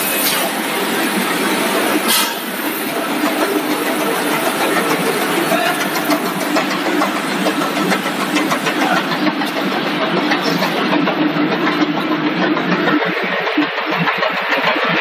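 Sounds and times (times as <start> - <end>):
machinery humming: 0.0 - 15.0
popcorn ticking down metal chute: 2.1 - 15.0.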